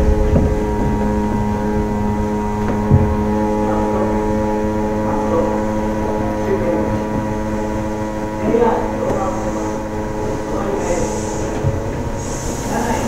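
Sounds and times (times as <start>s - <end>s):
train car electrical hum: 0.0s - 13.0s.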